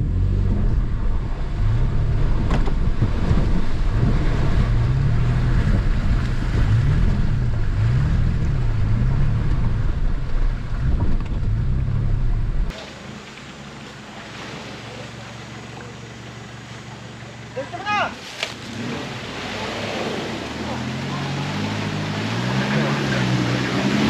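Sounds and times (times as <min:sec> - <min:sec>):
off-road vehicle engine under load: 0:00.0 - 0:24.0
outdoor background noise: 0:00.0 - 0:24.0.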